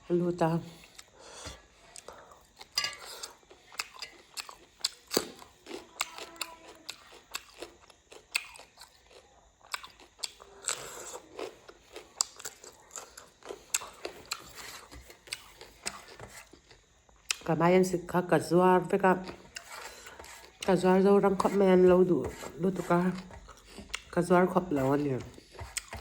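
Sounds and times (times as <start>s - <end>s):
person biting and chewing food: 0.8s - 17.5s, 19.2s - 20.7s, 22.2s - 24.1s, 25.0s - 26.0s.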